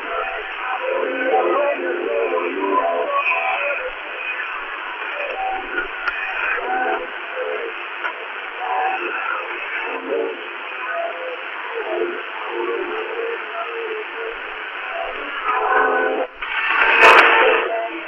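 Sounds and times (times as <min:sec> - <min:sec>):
radio hiss and static: 0:00.0 - 0:18.0
thin shortwave radio programme: 0:00.0 - 0:18.0.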